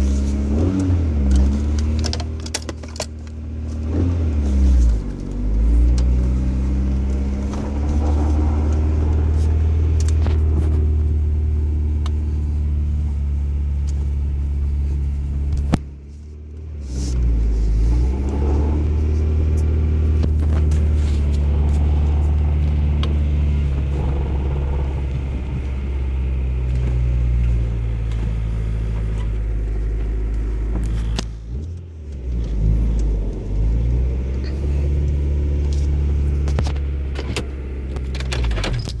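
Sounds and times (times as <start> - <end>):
car bearing drone: 0.0 - 39.0.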